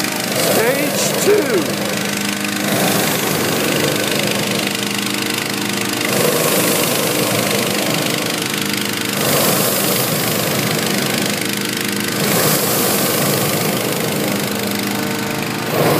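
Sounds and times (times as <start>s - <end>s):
fan air rushing: 0.0s - 15.9s
small gasoline engine humming: 0.0s - 15.9s.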